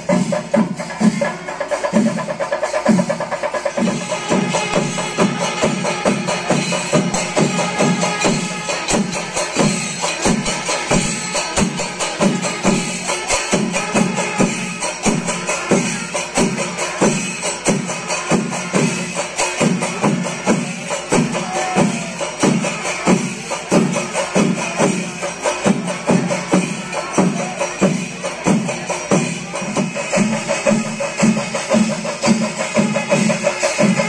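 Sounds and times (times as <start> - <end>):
drum strokes: 0.0 - 34.0
ringing cymbals: 0.0 - 34.0.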